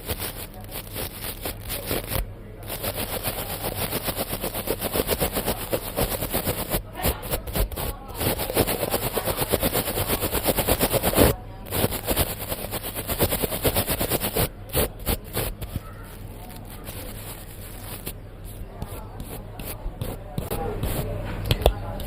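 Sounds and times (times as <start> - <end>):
scratching against a microphone: 0.0 - 22.0.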